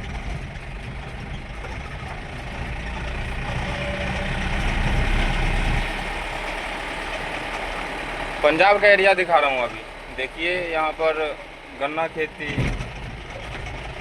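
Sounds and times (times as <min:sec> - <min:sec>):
road and tyre noise: 0:00.0 - 0:14.0
vehicle engine: 0:00.0 - 0:14.0.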